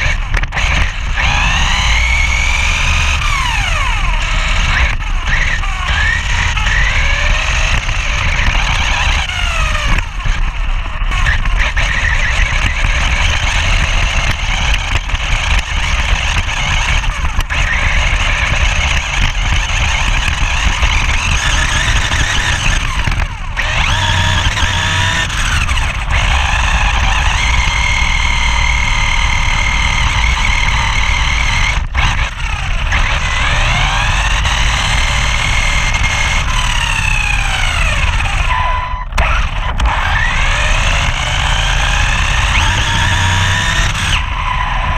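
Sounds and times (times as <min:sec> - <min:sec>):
electric motor whine: 0:00.0 - 0:44.9.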